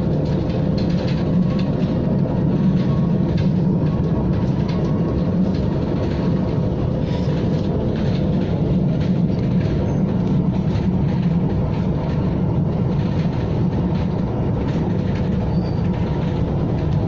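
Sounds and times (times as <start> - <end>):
electric train rumbling: 0.0 - 17.0
wheel clicks on rails: 0.0 - 17.0.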